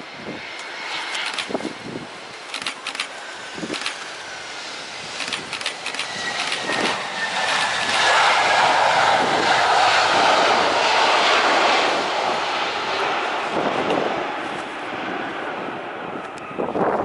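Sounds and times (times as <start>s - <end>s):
jet engine rushing with crackles: 0.0s - 17.0s.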